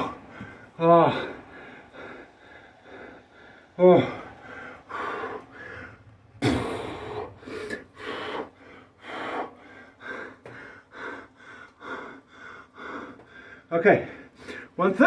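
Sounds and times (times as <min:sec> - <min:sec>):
man breathing hard and gasping: 0:00.0 - 0:14.8.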